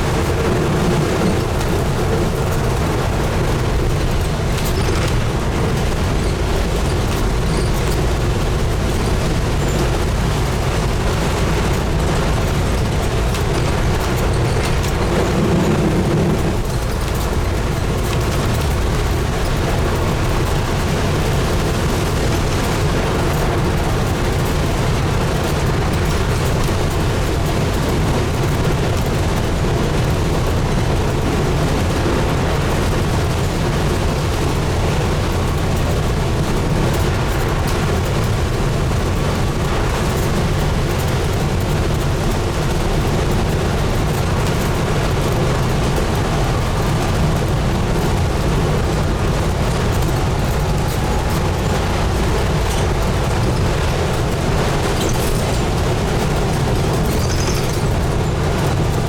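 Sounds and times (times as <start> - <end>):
bus diesel engine rumble: 0.0 - 59.0
road noise: 0.0 - 59.0.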